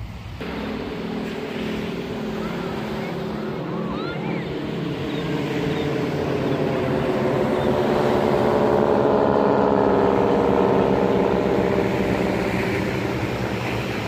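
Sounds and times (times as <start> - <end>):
propeller airplanes droning overhead: 0.0 - 14.0.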